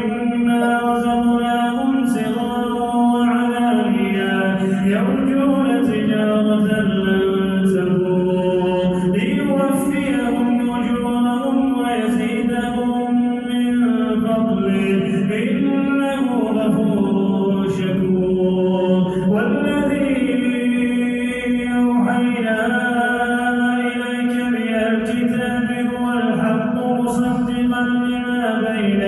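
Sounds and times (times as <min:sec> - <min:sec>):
man chanting melodically: 0:00.0 - 0:29.0.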